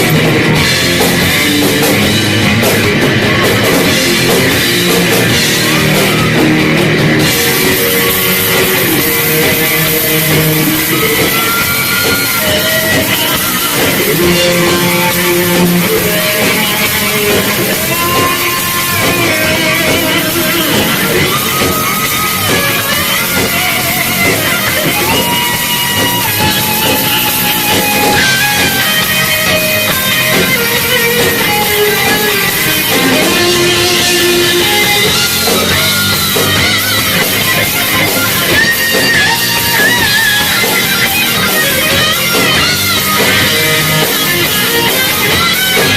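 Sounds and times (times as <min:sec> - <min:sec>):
drum kit: 0:00.0 - 0:45.9
electric guitars: 0:00.0 - 0:45.9.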